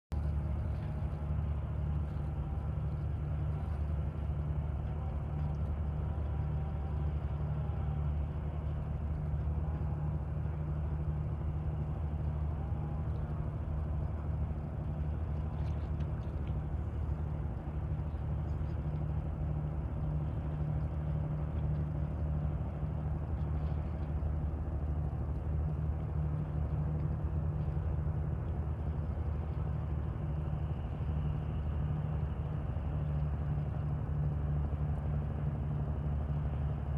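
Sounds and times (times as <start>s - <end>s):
boat diesel engine droning: 0.1s - 36.9s.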